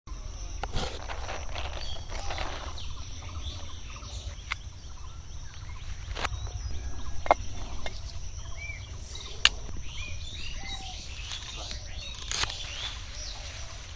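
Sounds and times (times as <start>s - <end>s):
birds chirping: 0.1s - 13.9s
low rumble: 0.2s - 12.2s.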